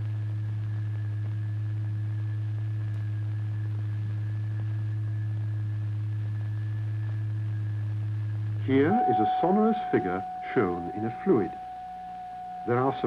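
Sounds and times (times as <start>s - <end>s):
steady low test tone: 0.0s - 13.0s.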